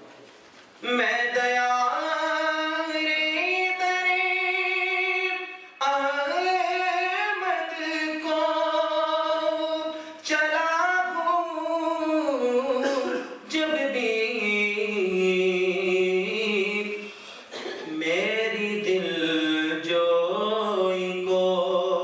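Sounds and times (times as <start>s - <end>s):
man singing unaccompanied: 0.8s - 22.0s.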